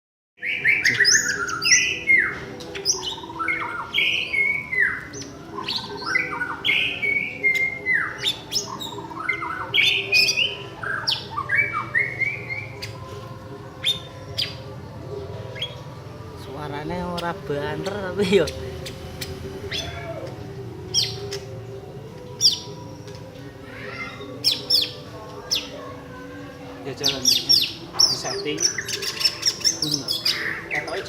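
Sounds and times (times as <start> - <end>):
bird singing whistled notes: 0.4 - 13.1, 13.7 - 14.8, 15.5 - 25.8, 27.0 - 31.0.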